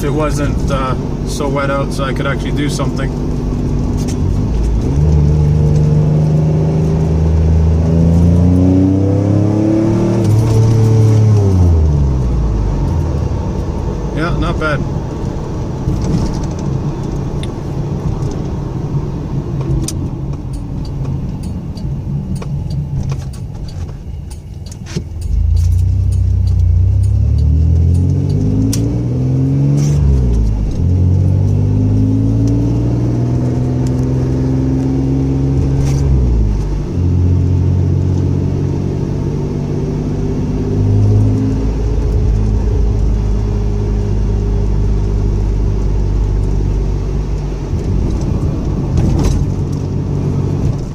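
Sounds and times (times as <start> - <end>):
car engine accelerating: 0.0 - 23.7, 25.0 - 50.9
road rumble: 0.0 - 50.9.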